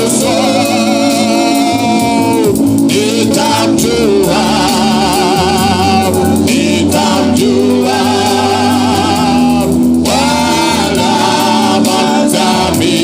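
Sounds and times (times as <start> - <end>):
congregation singing: 0.0 - 13.0
man singing through pa: 0.0 - 13.0.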